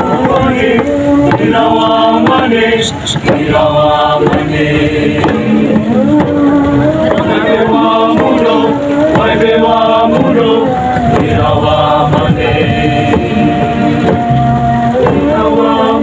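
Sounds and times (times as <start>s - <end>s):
sharp beat: 0.0s - 15.3s
group of voices chanting: 0.0s - 16.0s.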